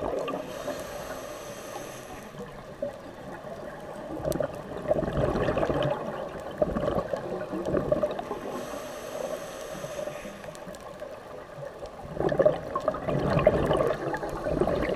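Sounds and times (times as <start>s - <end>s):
regulator bubbles gurgling: 0.0s - 9.9s, 10.8s - 14.9s.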